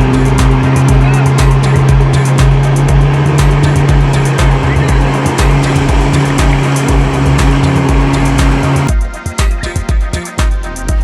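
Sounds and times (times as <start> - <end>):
water jet rushing: 0.0 - 8.9
watercraft engine running hard: 0.0 - 9.0
music with steady beat: 0.0 - 11.0.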